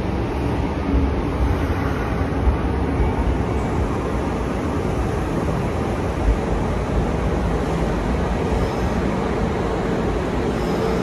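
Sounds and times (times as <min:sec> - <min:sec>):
railway station rumbling ambience: 0:00.0 - 0:11.0.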